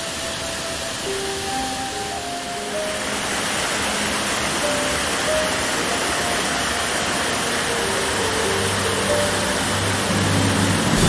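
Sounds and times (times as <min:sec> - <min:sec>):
soft background music: 0:00.0 - 0:11.0
waterfall rushing: 0:00.0 - 0:11.0.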